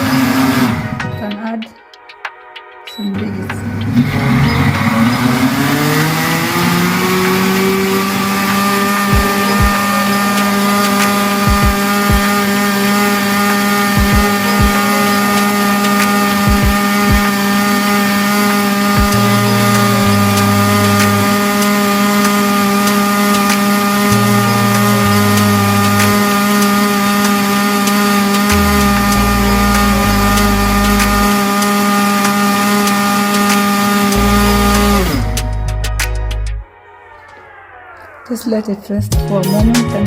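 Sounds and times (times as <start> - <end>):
blender motor running: 0.0 - 1.0, 3.6 - 35.4.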